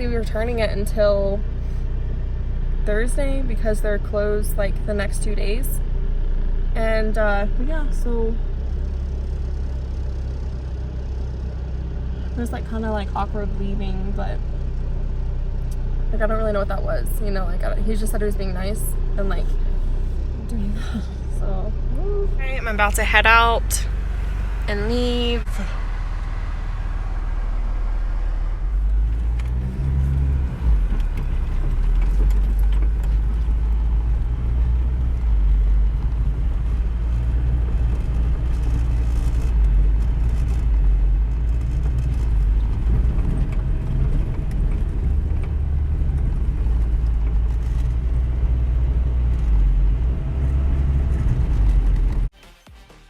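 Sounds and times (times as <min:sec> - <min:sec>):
car interior road rumble: 0:00.0 - 0:52.3.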